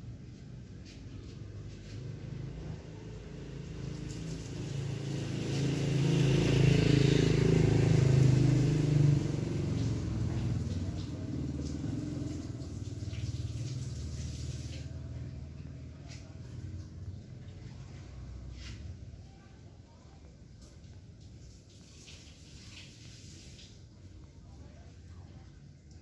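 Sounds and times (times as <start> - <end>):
vehicle engine passing by: 0.0 - 26.0.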